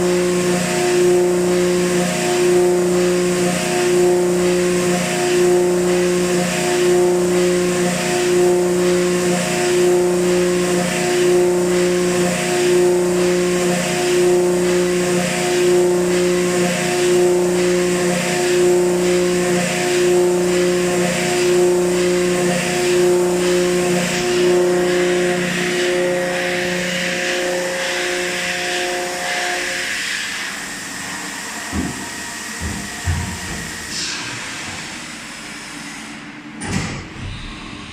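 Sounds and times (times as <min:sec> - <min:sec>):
milling machine cutting metal: 0:00.0 - 0:36.8.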